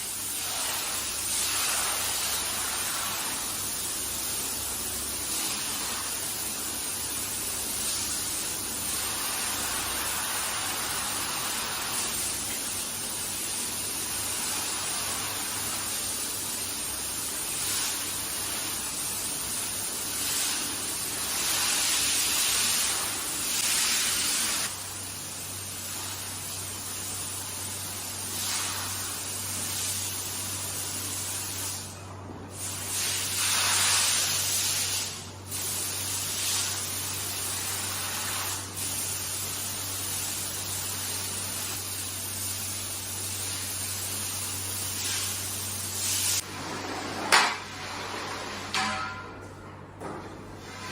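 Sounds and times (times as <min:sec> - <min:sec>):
water sprayer hissing: 0:00.0 - 0:25.1, 0:25.7 - 0:31.8, 0:32.6 - 0:46.4.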